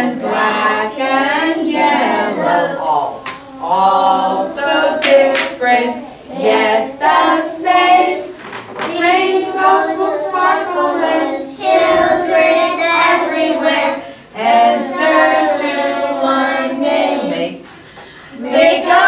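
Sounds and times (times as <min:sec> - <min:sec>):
children singing together: 0:00.0 - 0:19.0.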